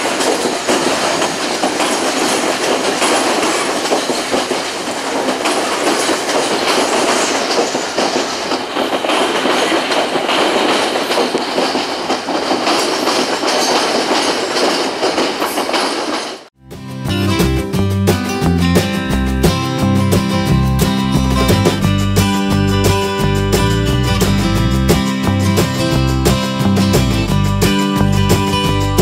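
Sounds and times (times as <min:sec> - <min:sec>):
train wheels clattering over rails: 0:00.0 - 0:16.5, 0:18.8 - 0:29.0.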